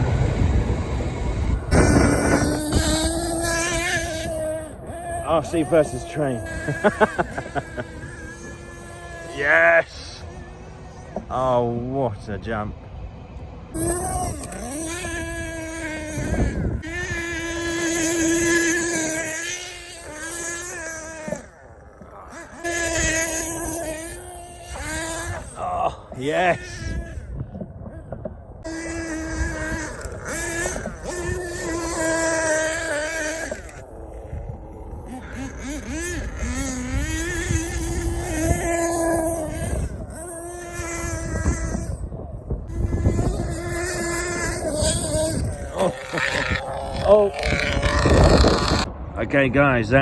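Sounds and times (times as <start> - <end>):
nitro engine buzzing at high revs: 0.0 - 11.8, 12.5 - 49.1.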